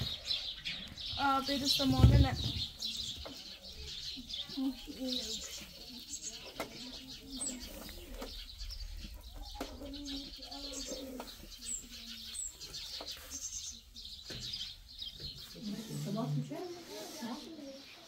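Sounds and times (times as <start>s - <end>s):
birds calling low notes: 0.0s - 18.0s.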